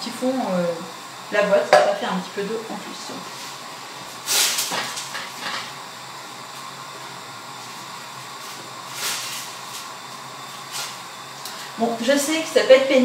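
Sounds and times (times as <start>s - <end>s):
pans sizzling on stove: 0.1s - 13.0s.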